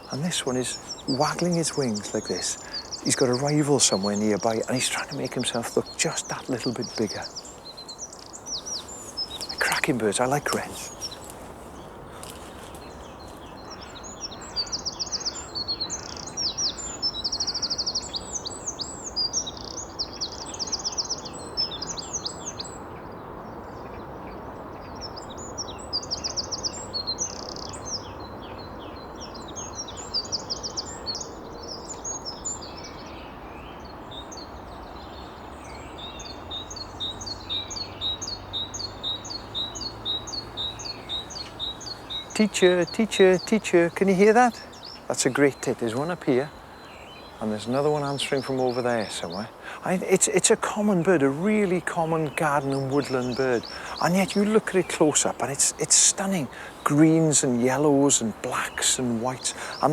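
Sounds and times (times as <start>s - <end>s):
wren singing trilled notes: 0.0s - 59.9s.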